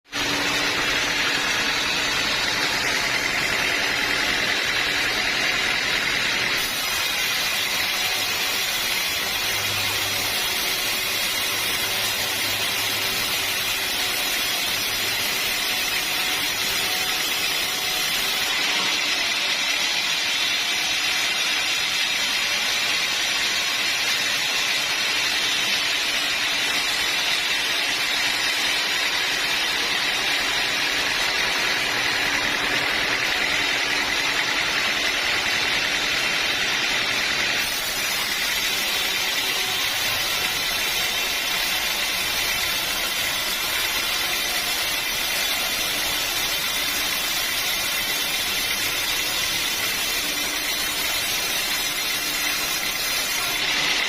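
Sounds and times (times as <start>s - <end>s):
sawmill saw cutting log: 0.1s - 54.0s.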